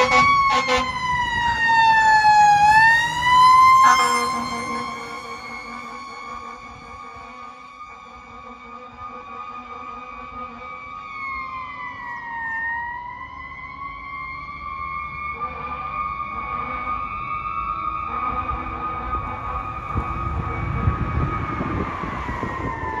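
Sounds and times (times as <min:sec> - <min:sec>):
truck engine rumble: 0:00.0 - 0:11.0, 0:14.8 - 0:23.0
fire truck siren wailing: 0:00.0 - 0:23.0
passing traffic: 0:00.0 - 0:23.0.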